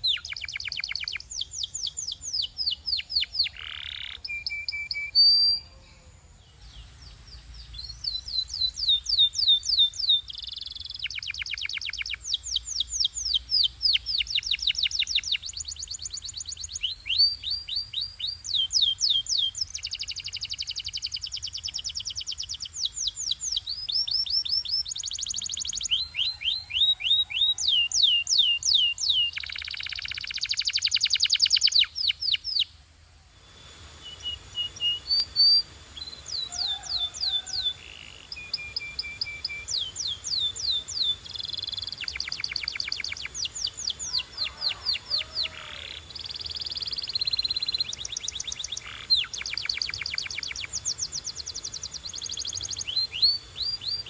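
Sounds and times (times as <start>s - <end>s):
canary singing trills: 0.0s - 32.8s, 33.4s - 54.0s.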